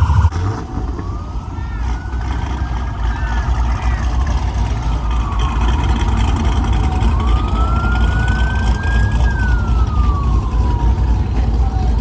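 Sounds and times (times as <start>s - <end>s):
loud low rumble: 0.0s - 10.8s
siren wailing: 0.0s - 12.0s.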